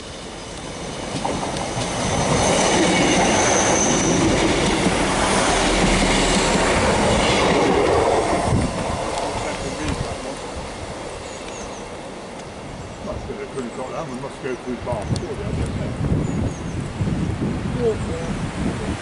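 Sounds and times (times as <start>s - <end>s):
diesel train passing at speed: 0.0s - 19.0s.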